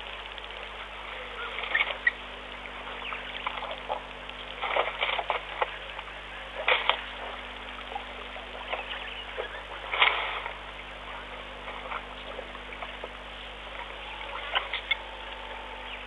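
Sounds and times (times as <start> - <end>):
elephants splashing in mud: 0.0 - 16.0
low electrical hum: 0.0 - 16.0
small wet sounds: 0.0 - 16.0.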